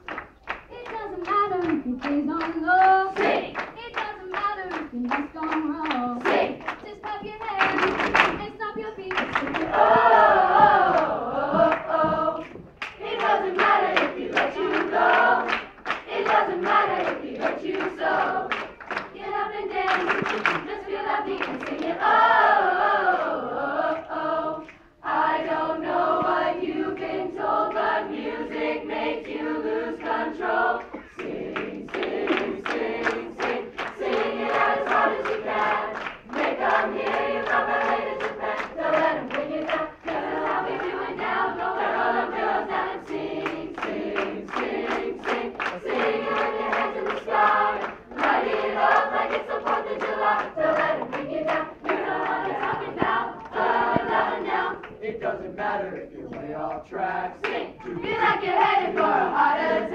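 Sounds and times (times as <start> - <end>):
rhythmic handclaps: 0.0 - 59.9
choir singing in harmony: 1.0 - 6.8, 7.4 - 59.9.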